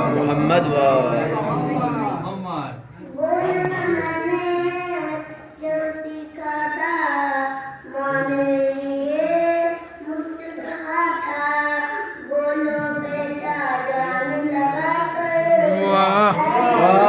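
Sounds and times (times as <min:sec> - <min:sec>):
boy chanting into microphone: 0:03.0 - 0:17.0.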